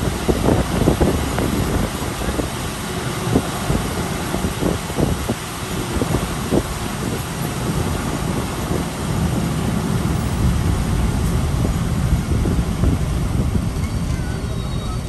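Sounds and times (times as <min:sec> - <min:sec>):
train wheels rumbling on rails: 0:00.0 - 0:15.0
wind noise on microphone: 0:00.0 - 0:15.0.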